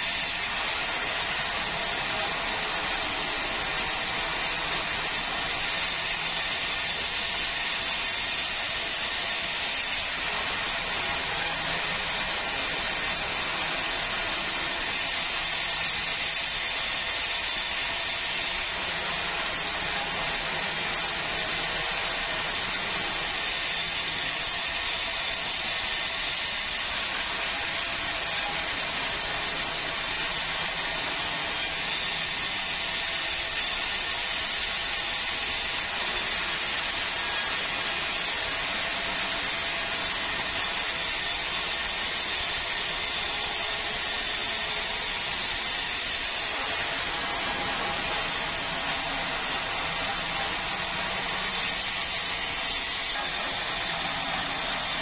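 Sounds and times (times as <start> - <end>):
sawmill saw cutting wood: 0.0 - 55.0.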